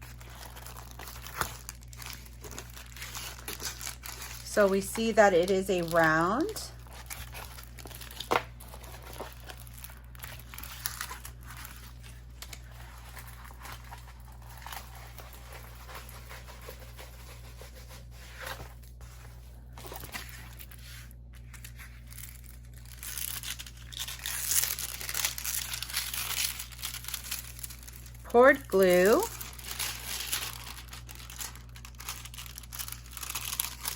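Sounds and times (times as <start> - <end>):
crinkling plastic film and canvas: 0.0 - 33.9.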